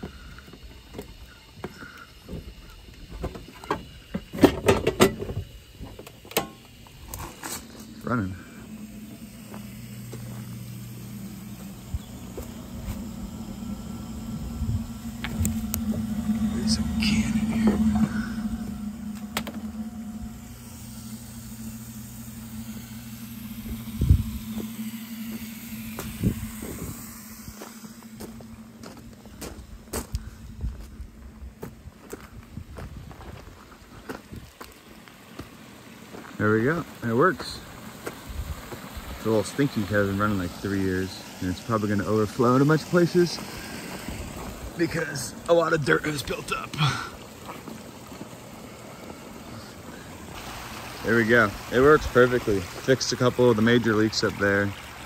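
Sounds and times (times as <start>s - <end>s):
pond pump humming: 0.0s - 55.0s.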